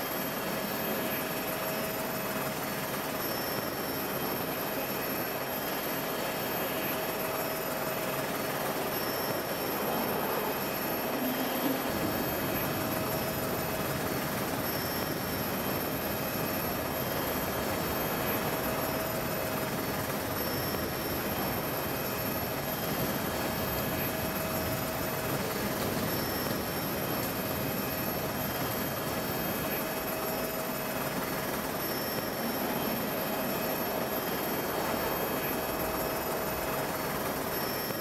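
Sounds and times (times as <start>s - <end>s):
constant hum-like tone: 0.0s - 38.0s
helicopter engine and rotor drone: 0.0s - 38.0s.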